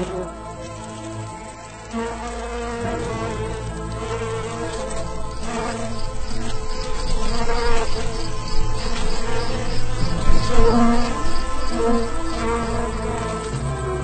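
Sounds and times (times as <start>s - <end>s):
insect wings buzzing: 0.0s - 14.0s
music: 0.0s - 14.0s.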